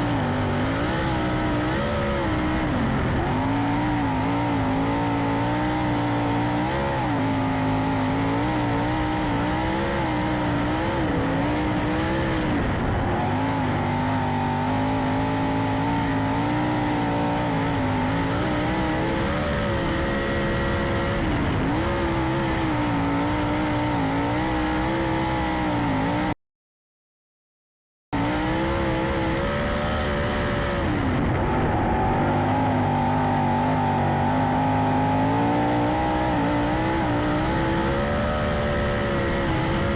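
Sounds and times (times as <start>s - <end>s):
race car engine at speed: 0.0s - 26.4s, 28.2s - 39.9s.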